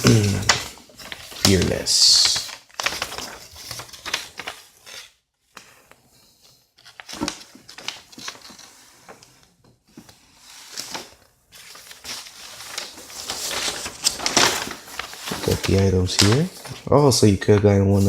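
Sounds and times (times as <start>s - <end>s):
paper rustling and crinkling: 0.0s - 17.1s.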